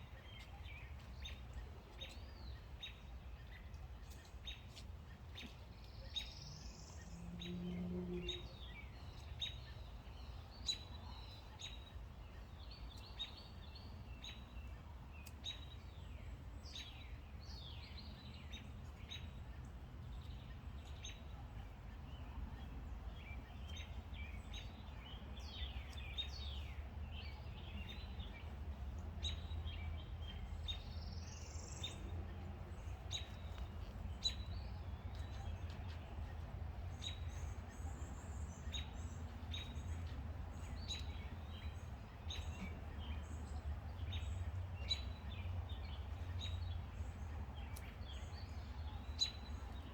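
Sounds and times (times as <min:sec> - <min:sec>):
low rumble of wind: 0:00.0 - 0:49.9
wild birds chirping and singing: 0:00.1 - 0:49.9.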